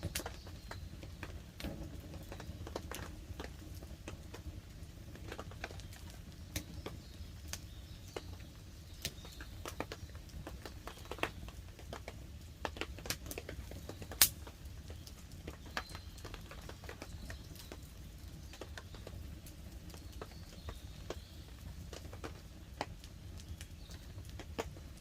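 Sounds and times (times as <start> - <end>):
campfire crackling: 0.0 - 25.0
fire pops and snaps: 0.0 - 25.0
rain pattering on a tarp: 0.0 - 25.0.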